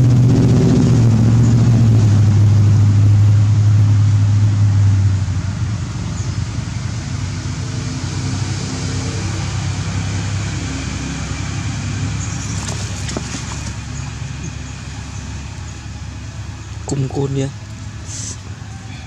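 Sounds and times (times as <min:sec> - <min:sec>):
motor engine humming: 0:00.0 - 0:19.0.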